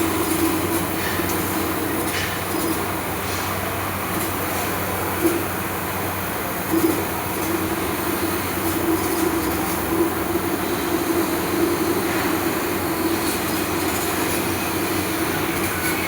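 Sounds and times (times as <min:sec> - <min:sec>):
laser cutting machine running: 0:00.0 - 0:16.0.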